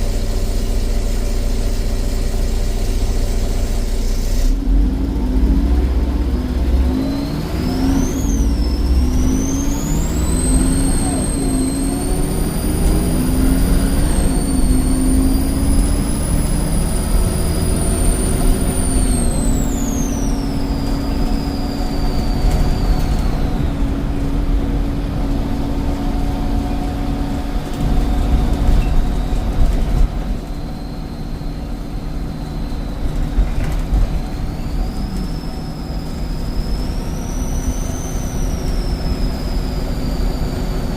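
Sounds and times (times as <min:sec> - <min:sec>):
bus engine drone: 0:00.0 - 0:40.9
turbocharger whistling: 0:00.0 - 0:40.9.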